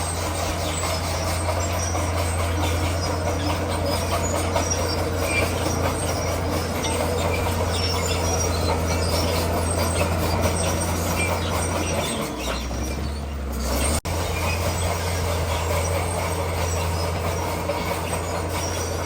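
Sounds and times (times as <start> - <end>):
bulldozer diesel engine: 0.0 - 19.0
high track squeaks: 0.0 - 19.0
steel tracks grinding and clanking: 0.0 - 19.0.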